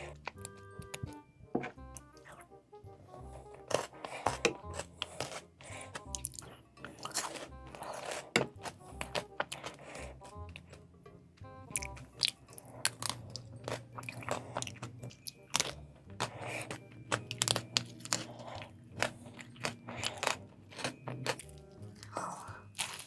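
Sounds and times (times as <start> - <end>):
chocolate crunching and chewing: 0.0 - 2.5, 3.1 - 10.9, 11.6 - 23.0.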